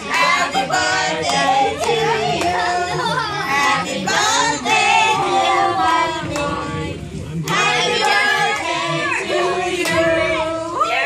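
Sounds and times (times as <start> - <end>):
women and children singing: 0.0 - 11.0.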